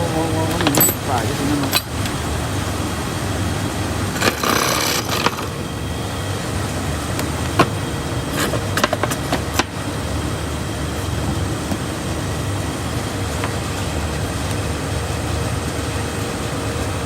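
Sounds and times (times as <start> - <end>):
tape machine humming: 0.0 - 17.0.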